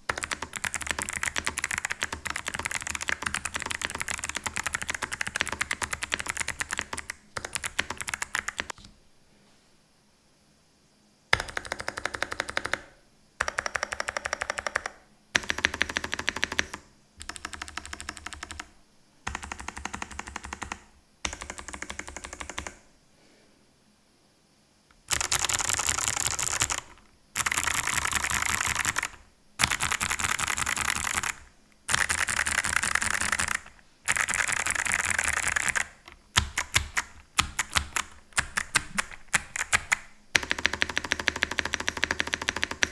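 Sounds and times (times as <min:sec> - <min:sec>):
clicky keyboard typing: 0:00.0 - 0:08.9, 0:11.4 - 0:22.8, 0:24.9 - 0:42.9.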